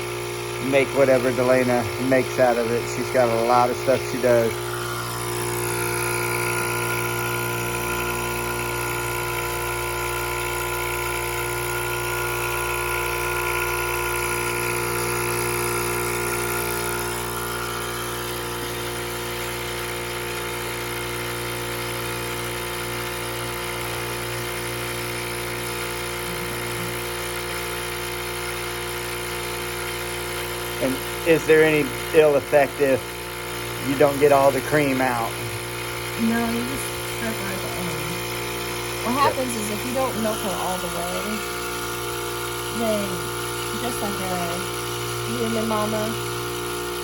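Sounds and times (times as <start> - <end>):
vacuum pump motor hum: 0.0 - 47.0.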